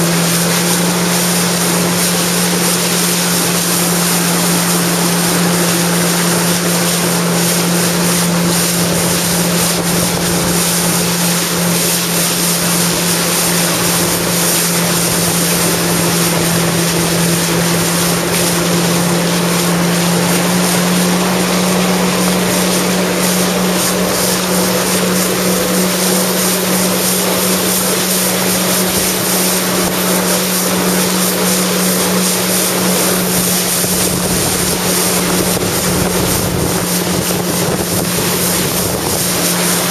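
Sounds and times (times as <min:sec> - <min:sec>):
jet ski engine droning: 0:00.0 - 0:39.9
rushing wind and water: 0:00.0 - 0:39.9.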